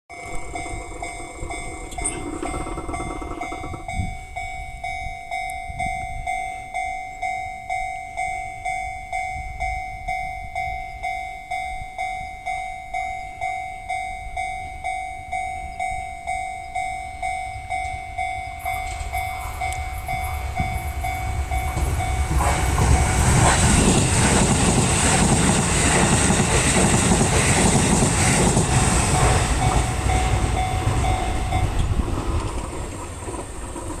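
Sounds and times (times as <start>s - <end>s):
train rumble and wheel clatter: 0.1s - 7.4s, 13.0s - 34.0s
level-crossing warning bell ringing: 0.1s - 34.0s.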